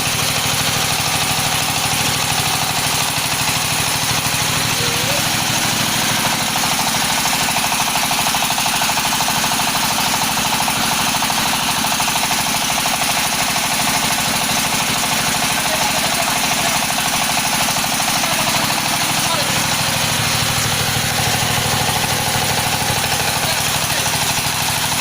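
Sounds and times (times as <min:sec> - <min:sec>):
pellet machine running: 0:00.0 - 0:25.0.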